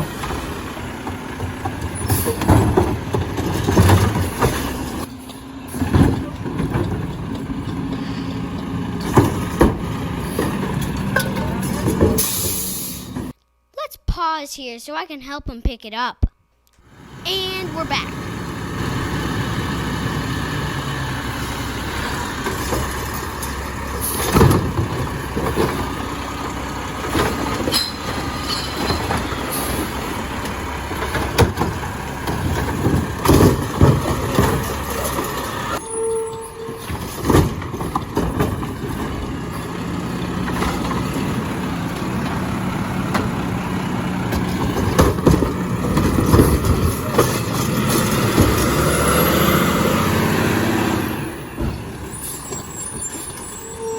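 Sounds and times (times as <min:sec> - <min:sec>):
garbage truck engine rumbling: 0:00.0 - 0:13.4, 0:16.8 - 0:53.9.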